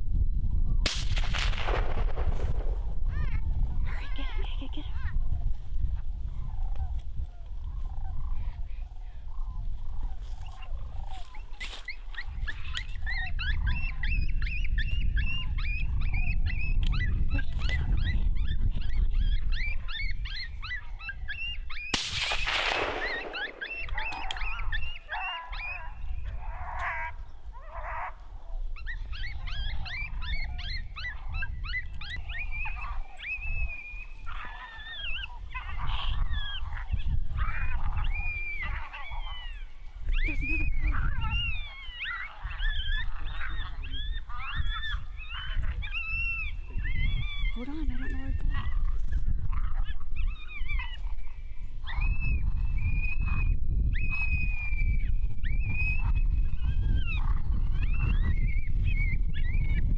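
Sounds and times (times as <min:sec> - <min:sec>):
wind rumble on microphone: 0:00.0 - 0:59.9
coyotes yipping and howling: 0:00.9 - 0:59.9.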